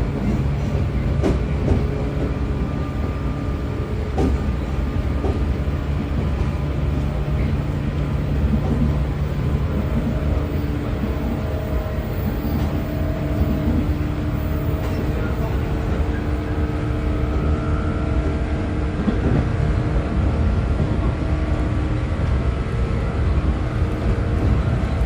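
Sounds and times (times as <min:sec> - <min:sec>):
train bogies rumbling on track: 0:00.0 - 0:25.0
train motors humming: 0:00.0 - 0:25.0.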